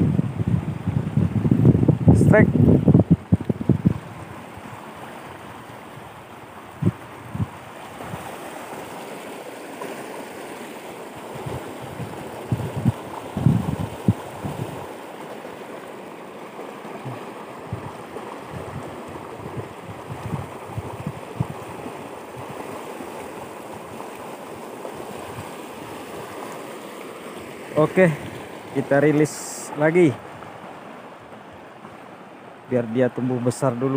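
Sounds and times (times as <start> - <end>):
river running over rocks: 2.6 - 33.9.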